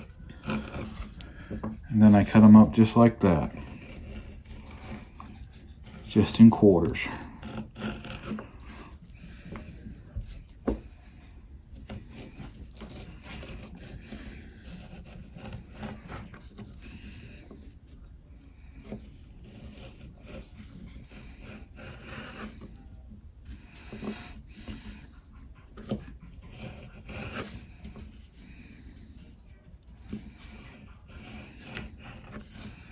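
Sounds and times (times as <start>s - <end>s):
knife scraping through banana: 0.0s - 32.9s.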